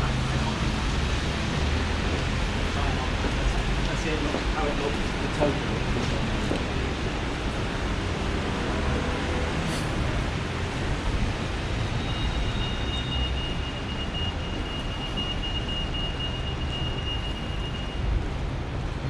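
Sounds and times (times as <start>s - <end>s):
traffic on wet street: 0.0s - 19.0s.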